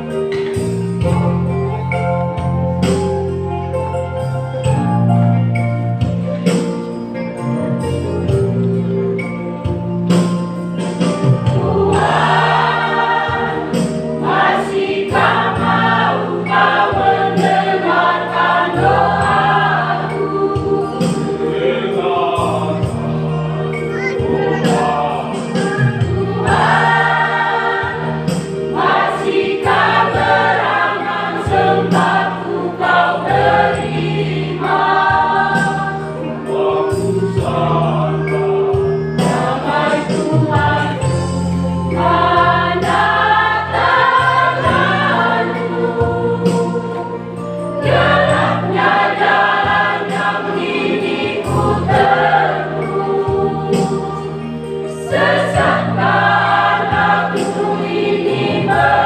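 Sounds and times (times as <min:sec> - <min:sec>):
choir singing a hymn: 0:00.0 - 0:06.7, 0:07.6 - 0:59.0.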